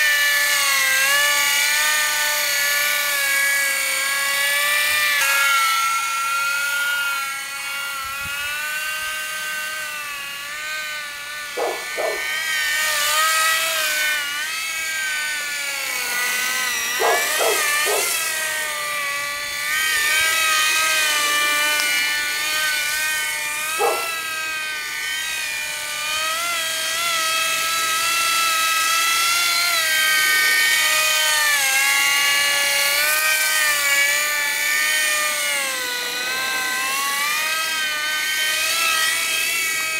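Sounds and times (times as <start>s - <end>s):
model helicopter motor whine: 0.0s - 39.9s.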